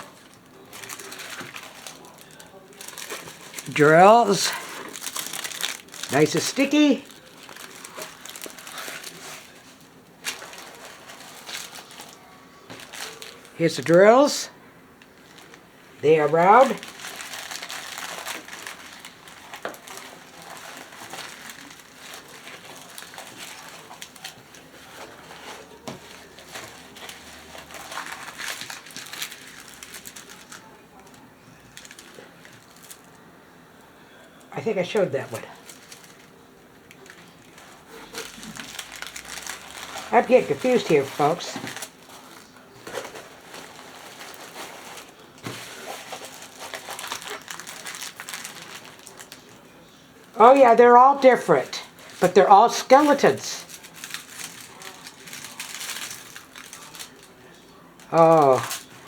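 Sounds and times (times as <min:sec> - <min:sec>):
plastic bags crinkling: 0:00.0 - 0:33.3, 0:34.3 - 0:59.0
plastic packaging rustling: 0:00.0 - 0:59.0.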